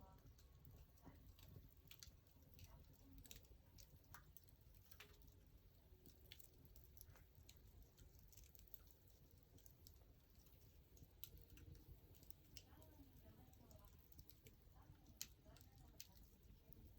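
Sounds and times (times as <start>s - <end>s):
faint wood fire crackling: 0.0s - 16.9s.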